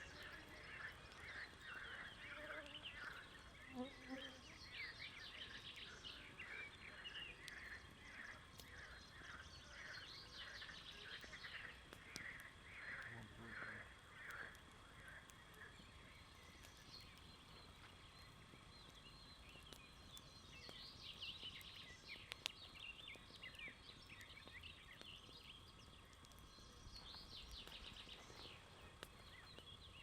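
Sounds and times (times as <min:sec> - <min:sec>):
bonfire wood snapping: 0:00.0 - 0:03.6, 0:04.7 - 0:30.0
faint birdsong chirps: 0:00.0 - 0:30.0
outdoor background: 0:00.0 - 0:30.0.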